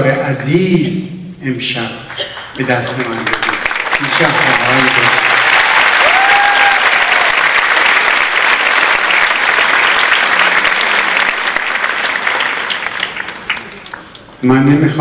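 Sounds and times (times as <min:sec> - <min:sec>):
audience applauding: 0:02.1 - 0:14.5.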